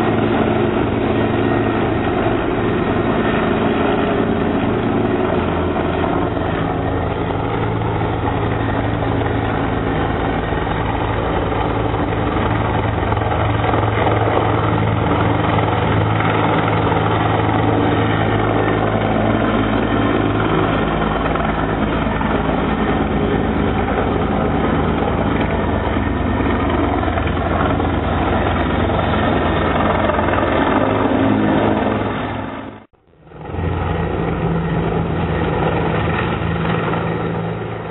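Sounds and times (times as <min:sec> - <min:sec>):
helicopter flying overhead: 0:00.0 - 0:37.9.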